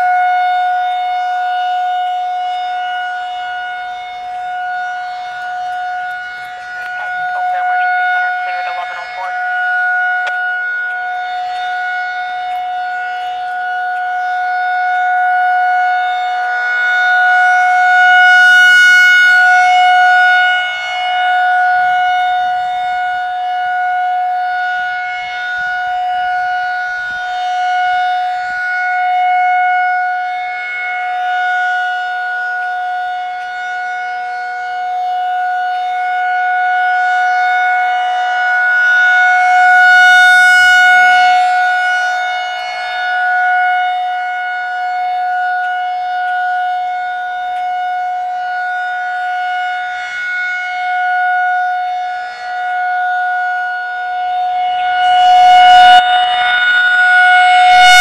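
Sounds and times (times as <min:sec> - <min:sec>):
electronic siren alert tone: 0:00.0 - 0:58.0.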